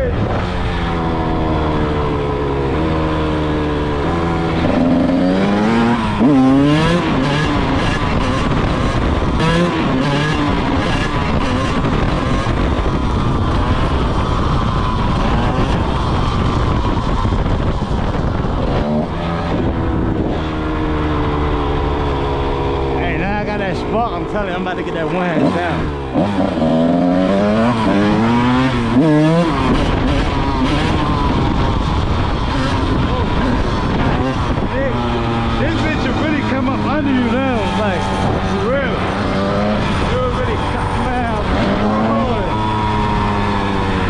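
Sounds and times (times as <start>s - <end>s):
two-stroke motorcycle revving: 0.0s - 44.0s.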